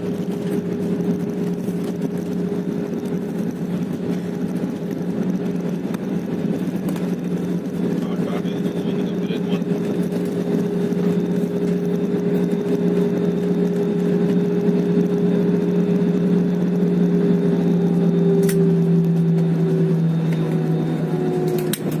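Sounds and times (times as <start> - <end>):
jet engines droning in cabin: 0.0 - 22.0.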